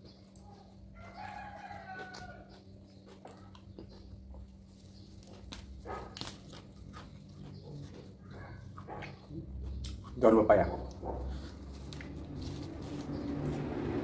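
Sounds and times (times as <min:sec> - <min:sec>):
crunching raw vegetables: 0:00.0 - 0:14.0.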